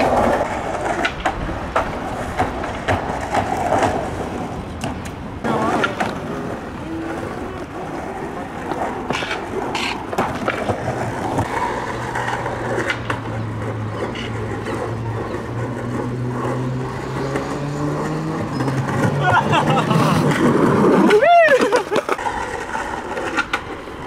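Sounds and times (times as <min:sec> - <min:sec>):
skateboard clacks: 0:00.0 - 0:24.0
skateboard rolling on wooden planks: 0:00.0 - 0:24.0.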